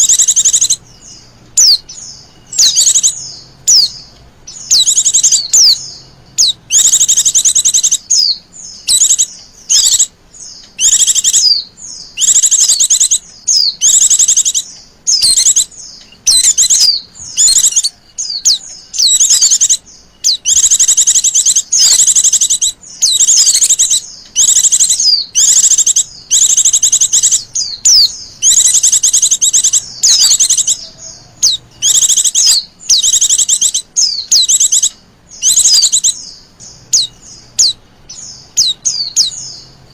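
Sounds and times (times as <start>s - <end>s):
bird chirping trills: 0.0s - 39.9s.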